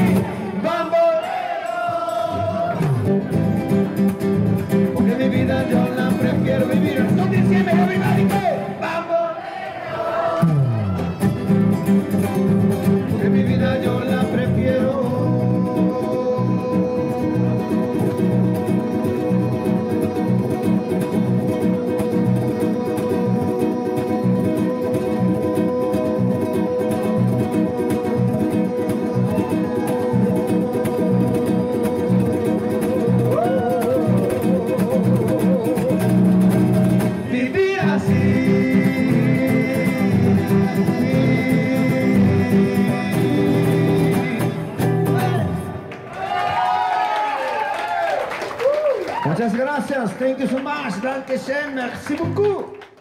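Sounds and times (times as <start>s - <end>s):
guitar melody: 0.0s - 0.6s, 2.3s - 8.7s, 10.4s - 45.9s.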